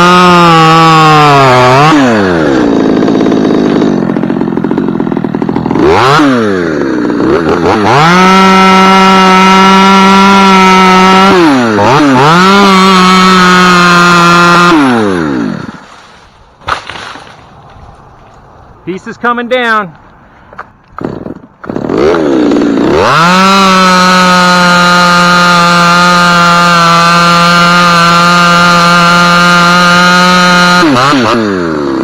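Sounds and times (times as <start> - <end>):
chainsaw cutting wood: 0.0 - 18.5, 20.5 - 32.0.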